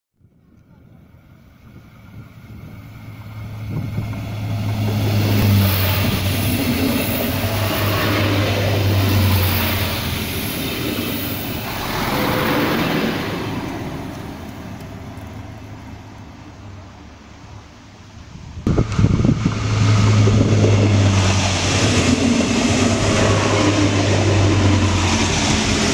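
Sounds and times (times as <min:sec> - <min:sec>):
diesel engine hum: 0:00.2 - 0:25.9
train wheels rumbling on rails: 0:00.3 - 0:17.2, 0:18.6 - 0:25.9.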